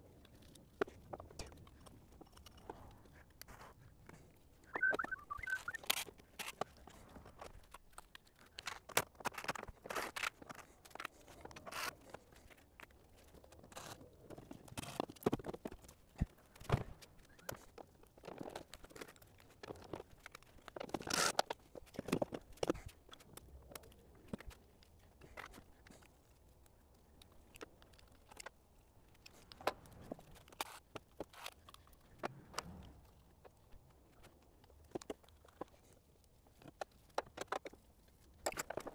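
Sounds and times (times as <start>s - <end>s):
clicks and scrapes of hand work: 0.2s - 4.4s, 5.7s - 38.9s.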